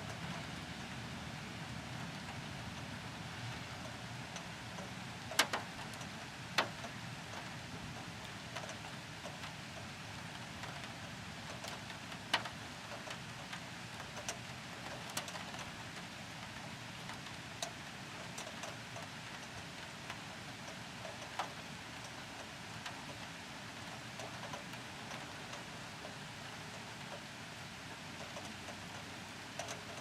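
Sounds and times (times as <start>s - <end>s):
raindrops tapping close by: 0.0s - 30.0s
steady rain hiss: 0.0s - 30.0s.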